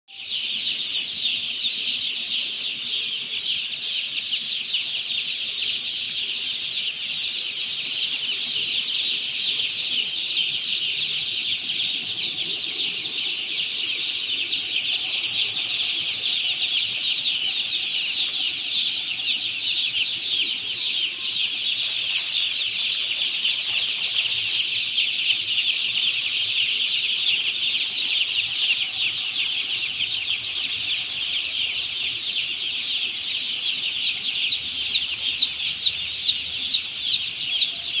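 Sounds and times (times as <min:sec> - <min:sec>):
chicks peeping: 0:00.1 - 0:38.0.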